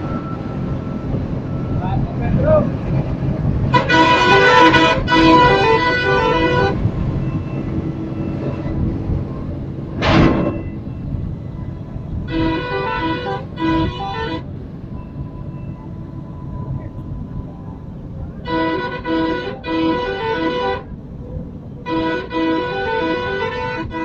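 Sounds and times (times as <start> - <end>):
engine and road rumble: 0.0 - 24.0
bus multi-note horn tune: 3.5 - 24.0.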